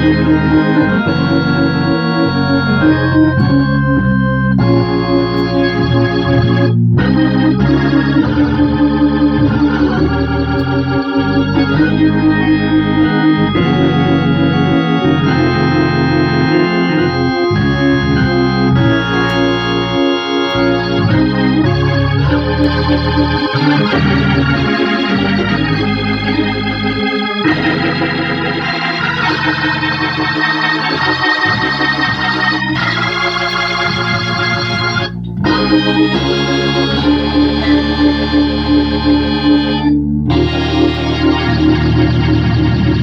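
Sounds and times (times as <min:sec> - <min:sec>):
organ chords through rotating speaker: 0:00.0 - 0:43.0.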